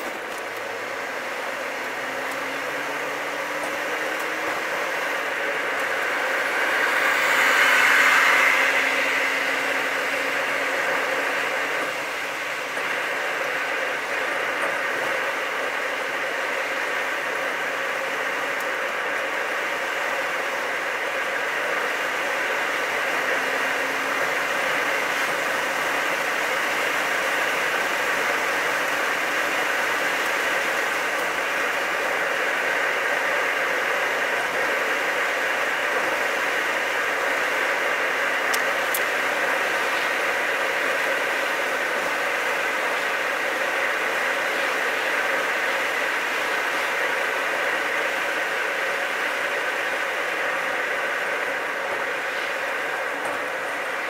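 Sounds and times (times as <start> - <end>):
car cabin road and engine noise: 0.0 - 54.0.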